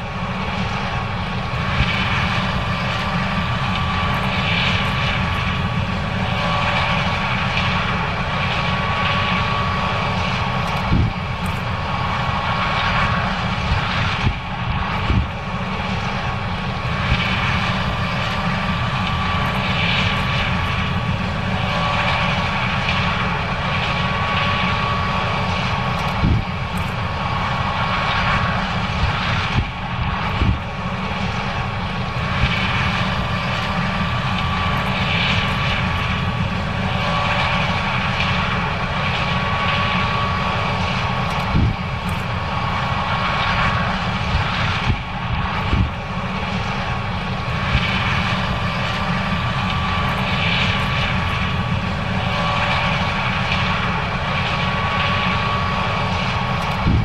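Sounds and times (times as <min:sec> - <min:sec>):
combine engine rumbling: 0:00.0 - 0:57.0
thin steady whine: 0:00.0 - 0:57.0.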